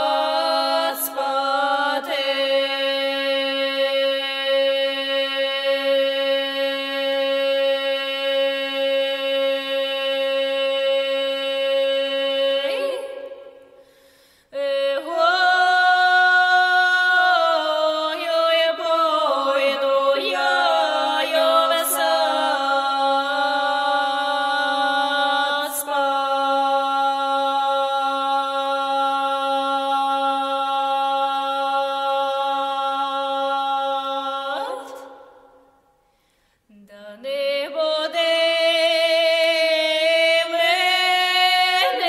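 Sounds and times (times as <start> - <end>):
women singing in harmony: 0.0 - 13.8, 14.5 - 35.6, 36.7 - 42.0.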